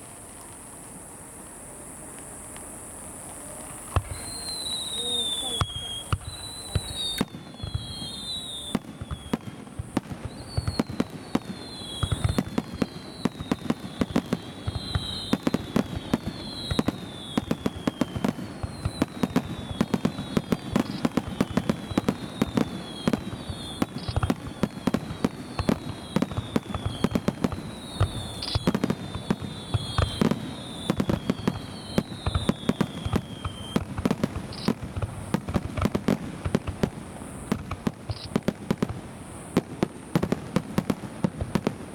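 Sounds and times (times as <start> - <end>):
fireworks bangs and crackles: 0.0 - 41.9
fireworks falling whistles: 0.0 - 41.9.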